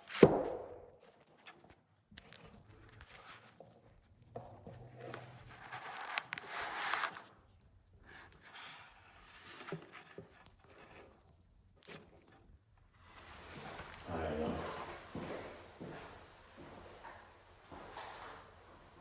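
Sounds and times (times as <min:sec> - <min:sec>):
rustling and handling noises: 0:01.0 - 0:19.0.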